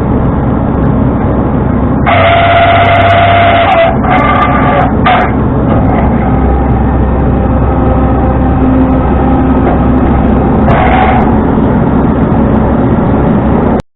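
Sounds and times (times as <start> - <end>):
road noise: 0.0 - 13.8
truck engine drone: 0.0 - 13.8.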